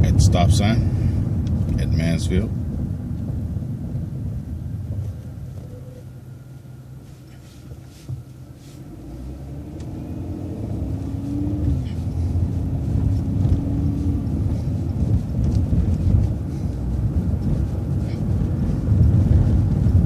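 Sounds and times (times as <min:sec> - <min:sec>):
bus engine accelerating: 0:00.0 - 0:20.0.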